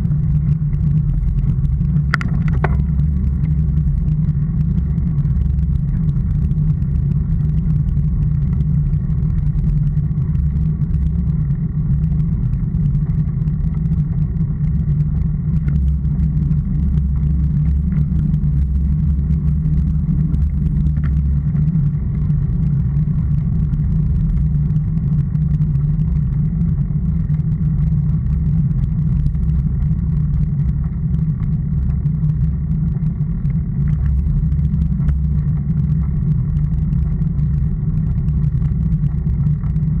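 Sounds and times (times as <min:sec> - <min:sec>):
bicycle tyre noise on asphalt: 0:00.0 - 0:40.0.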